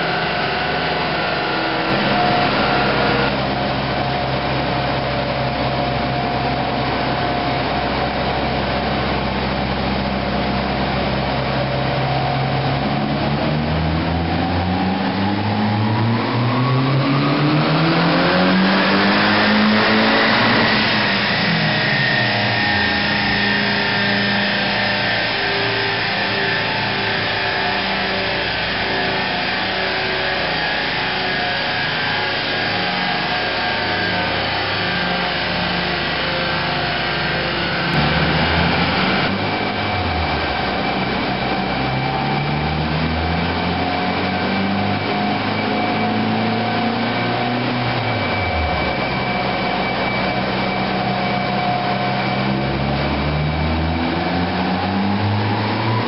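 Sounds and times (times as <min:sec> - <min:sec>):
car engine revving on dyno: 0:00.0 - 0:56.0.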